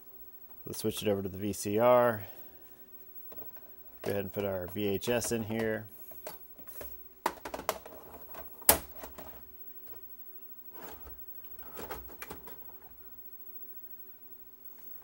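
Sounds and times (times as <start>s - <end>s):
soft mechanical rustling: 0.4s - 10.1s, 10.7s - 13.2s.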